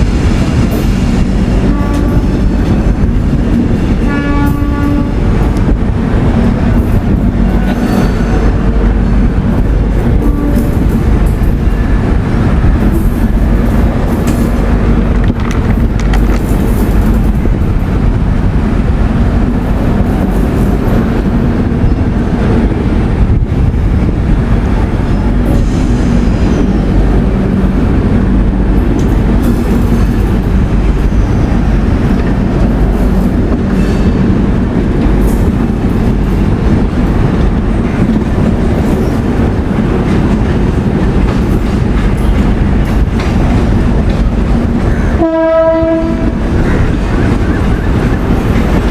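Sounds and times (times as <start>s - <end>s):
train wheels clicking over rail joints: 0.0s - 18.0s, 23.9s - 45.2s.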